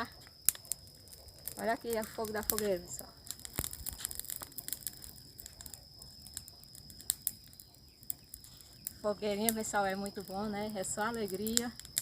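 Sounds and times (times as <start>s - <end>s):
bonfire crackling: 0.0s - 12.0s
sharp snaps of burning wood: 0.0s - 12.0s.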